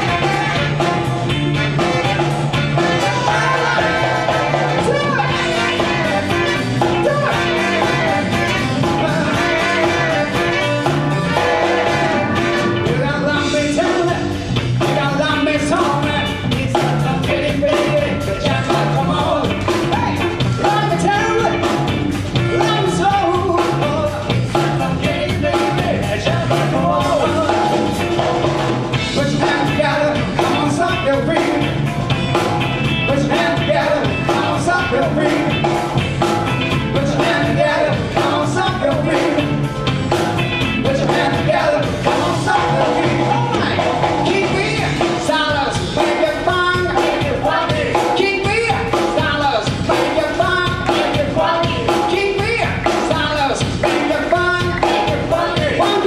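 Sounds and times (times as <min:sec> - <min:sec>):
live band playing: 0:00.0 - 0:56.0
steady drum beat: 0:00.0 - 0:56.0.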